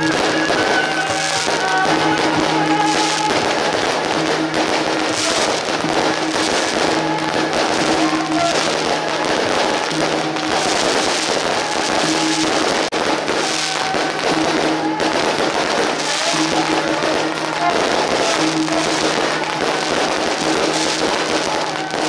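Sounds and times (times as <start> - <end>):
firecrackers crackling: 0.0 - 22.0
fountain fireworks shooting sparks: 0.0 - 22.0
music with long held notes: 0.0 - 22.0.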